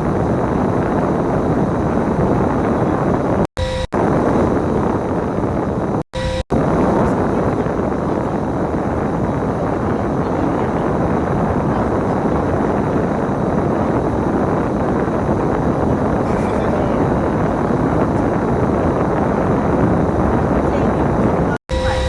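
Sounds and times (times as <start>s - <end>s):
bus engine and road noise: 0.0s - 3.5s, 6.7s - 22.0s.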